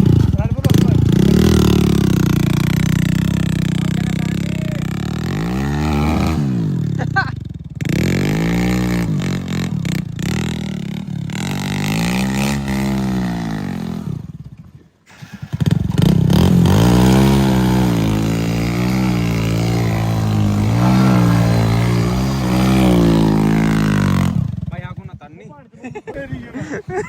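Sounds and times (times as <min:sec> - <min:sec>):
diesel engine revving: 0:00.0 - 0:14.4, 0:15.1 - 0:24.8.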